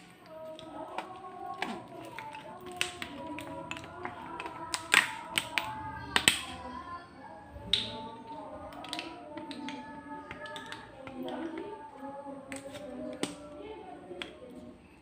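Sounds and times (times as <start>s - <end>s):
faint background music or voices: 0.0s - 15.0s.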